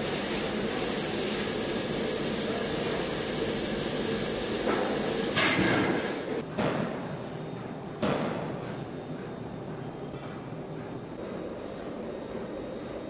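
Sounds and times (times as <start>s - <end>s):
forge machinery roar and hiss: 0.0s - 13.0s.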